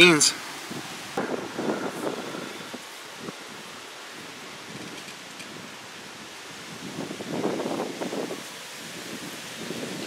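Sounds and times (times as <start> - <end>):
leaves rustling: 0.0 - 10.0
wind blowing across microphone: 0.0 - 10.0.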